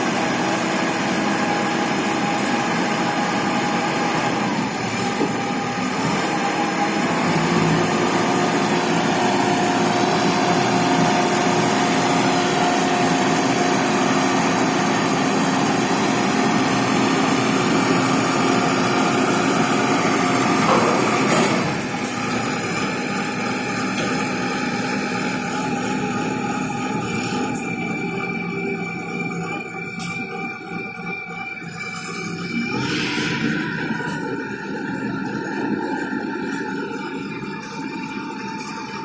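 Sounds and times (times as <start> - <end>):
concrete mixer engine whining: 0.0 - 39.0.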